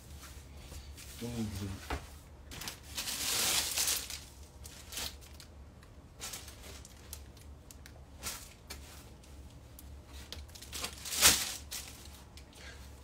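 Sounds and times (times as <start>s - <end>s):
low steady hum: 0.0s - 13.0s
rustling and handling noise: 0.0s - 13.0s.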